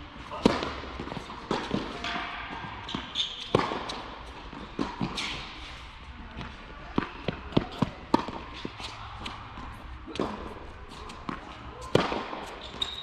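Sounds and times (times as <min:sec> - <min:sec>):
tennis ball hits and bounces: 0:00.2 - 0:05.5, 0:06.4 - 0:13.0.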